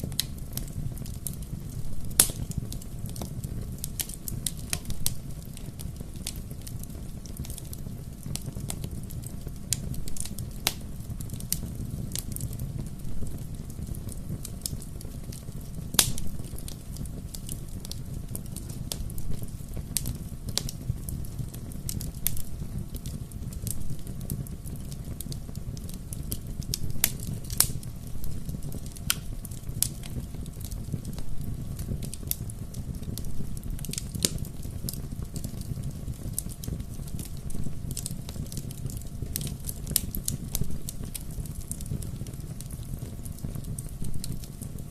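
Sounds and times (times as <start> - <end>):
bonfire flames rumbling: 0.0 - 44.9
fire popping and crackling: 0.0 - 44.9.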